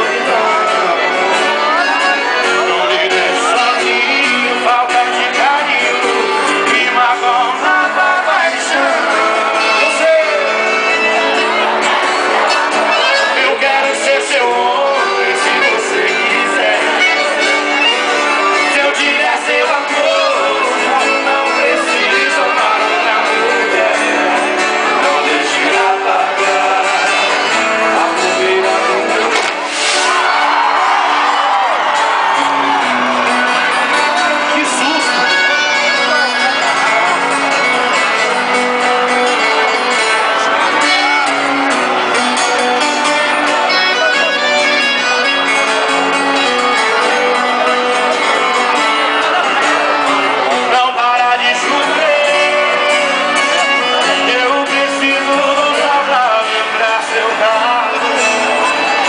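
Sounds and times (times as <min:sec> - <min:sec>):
person singing: 0:00.0 - 0:30.5, 0:31.4 - 0:59.0
live band playing instrumental: 0:00.0 - 0:59.0
strummed acoustic guitar: 0:00.0 - 0:59.0.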